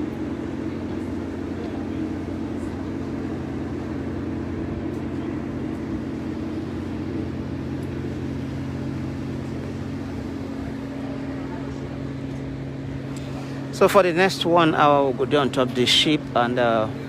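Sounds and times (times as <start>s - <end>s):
machinery droning hum: 0.0s - 17.0s.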